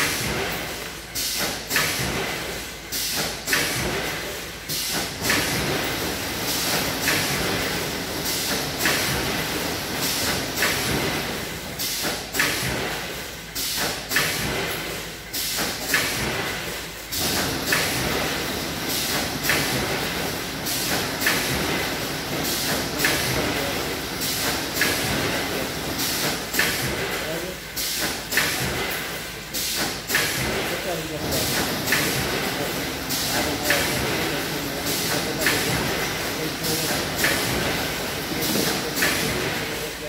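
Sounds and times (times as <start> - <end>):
machine hiss and clatter bursts: 0.0 - 40.0
packing machine running: 0.0 - 40.0.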